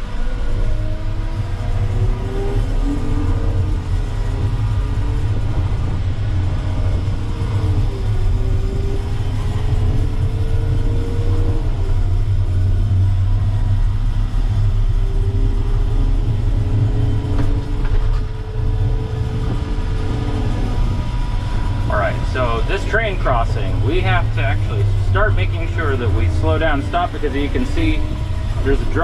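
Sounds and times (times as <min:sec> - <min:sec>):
faint whine: 0:00.0 - 0:29.0
truck low rumble from cab: 0:00.0 - 0:29.0.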